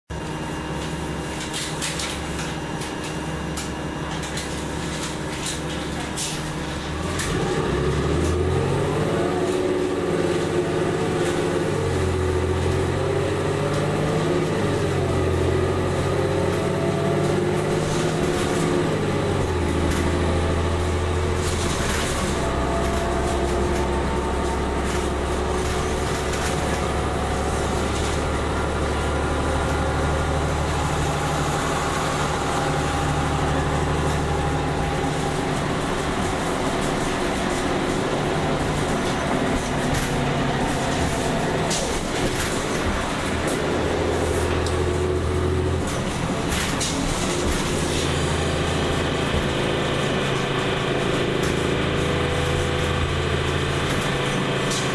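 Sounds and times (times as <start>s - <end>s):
bus engine accelerating through gears: 0.1s - 54.9s.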